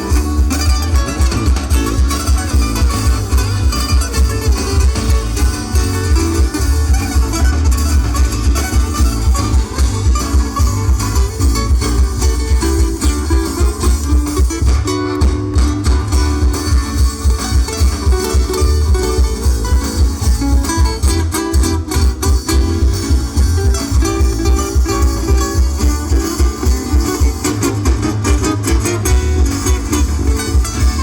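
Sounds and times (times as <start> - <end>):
plucked string melody: 0.0 - 31.0
pulsing bass: 0.0 - 31.0.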